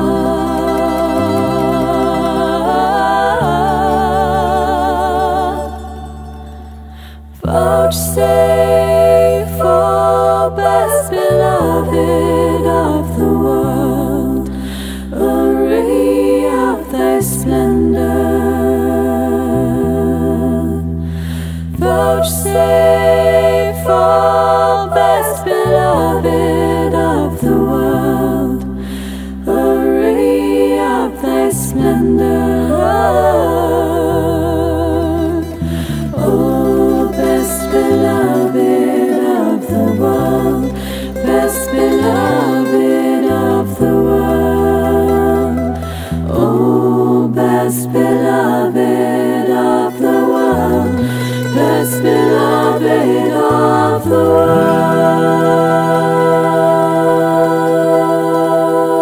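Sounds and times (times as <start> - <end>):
low musical accompaniment: 0.0 - 21.0, 21.7 - 59.0
women singing in harmony: 0.0 - 59.0.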